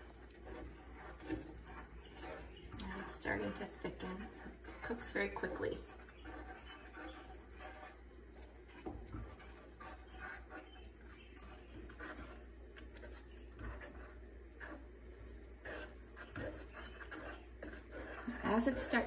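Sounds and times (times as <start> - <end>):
wooden spoon scraping saucepan: 0.0 - 19.0.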